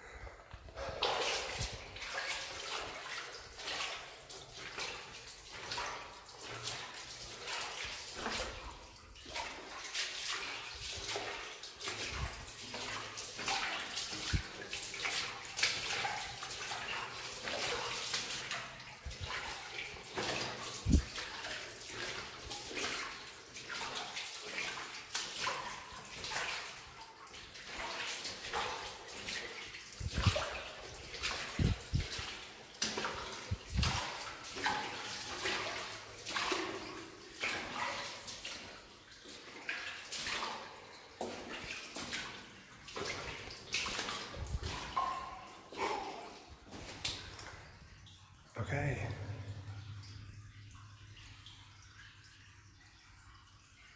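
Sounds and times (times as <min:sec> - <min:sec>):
boots splashing through shallow water: 0:00.8 - 0:47.8.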